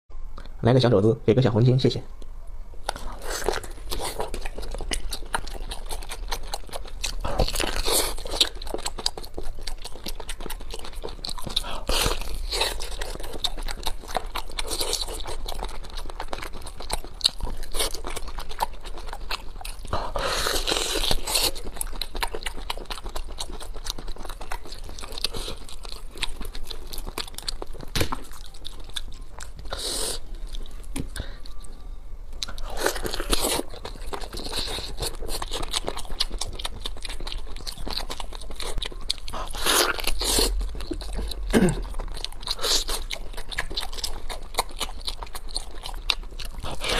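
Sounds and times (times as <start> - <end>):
meat chewing: 2.8 - 31.7, 32.4 - 46.9.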